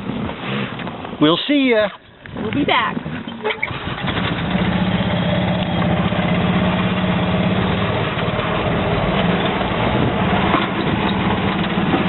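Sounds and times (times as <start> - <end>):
utility cart engine running: 2.2 - 12.0.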